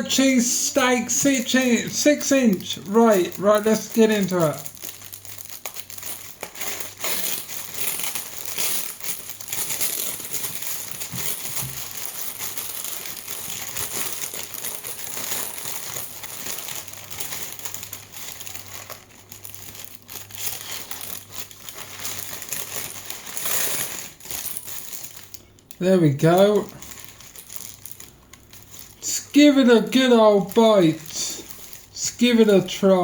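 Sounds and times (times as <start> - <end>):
paper wrapper crinkling: 0.0 - 33.0.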